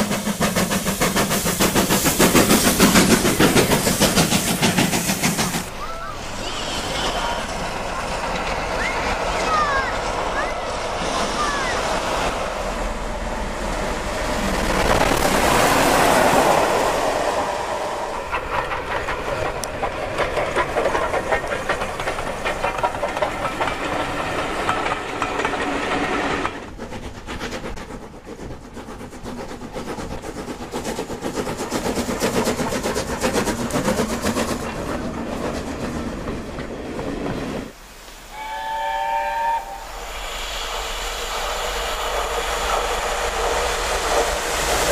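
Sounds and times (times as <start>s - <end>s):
train wheels clattering over rails: 0.0s - 37.8s, 40.0s - 44.9s
steam locomotive exhaust beats: 0.0s - 44.9s.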